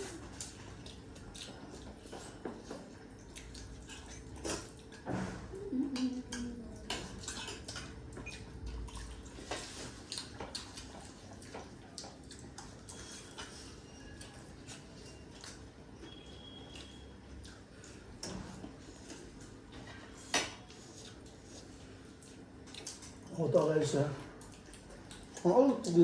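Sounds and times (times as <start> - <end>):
chewing noises: 0.0 - 26.0.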